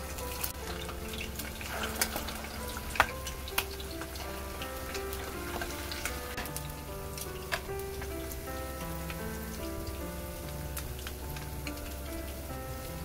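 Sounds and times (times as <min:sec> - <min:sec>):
deep-frying sizzle in hot oil: 0:00.0 - 0:13.0
oil popping and crackling: 0:00.0 - 0:13.0.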